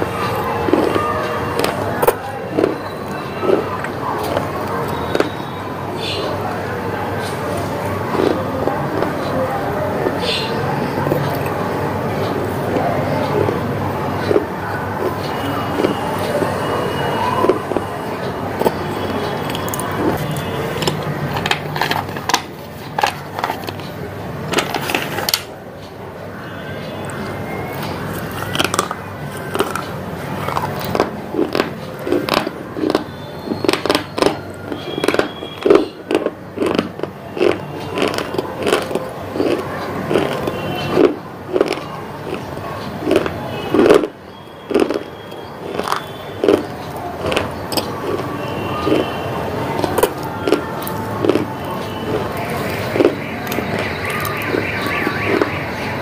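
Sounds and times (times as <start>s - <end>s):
crunchy chewing: 0.0s - 6.6s, 7.2s - 25.4s, 27.0s - 55.9s.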